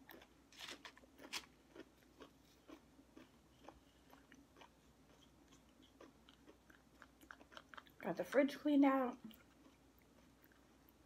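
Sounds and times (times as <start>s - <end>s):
person chewing food: 0.0s - 8.1s, 9.2s - 11.0s.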